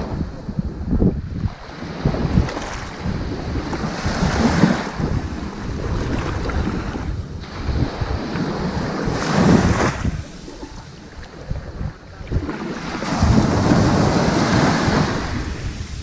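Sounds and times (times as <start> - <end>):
ocean waves washing onto sand: 0.0 - 16.0.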